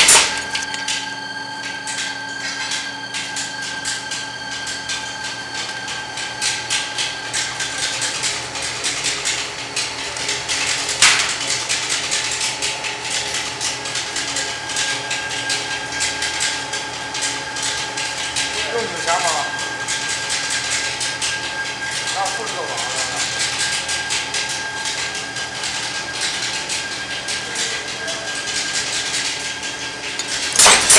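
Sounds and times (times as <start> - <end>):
rapid machinery clicking: 0.0 - 30.9
roll forming machine whining: 0.0 - 30.9.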